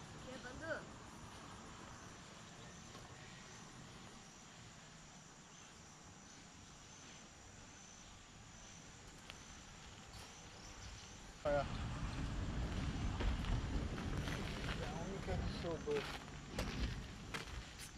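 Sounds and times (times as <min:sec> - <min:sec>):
insects chirring: 0:00.0 - 0:17.9.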